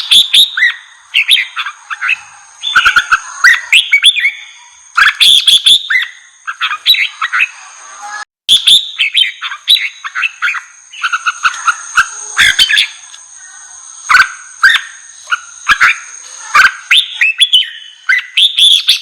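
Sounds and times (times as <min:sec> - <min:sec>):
bulbul singing: 0:00.0 - 0:19.0.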